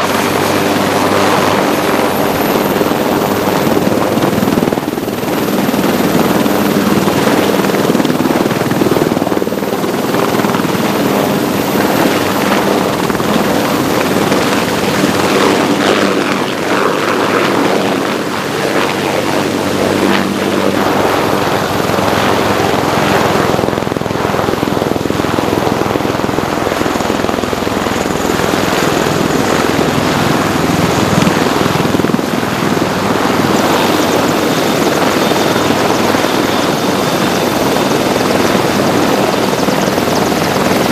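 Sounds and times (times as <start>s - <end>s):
helicopter rotors and engines: 0.0s - 40.9s
high turbine whine: 0.0s - 40.9s.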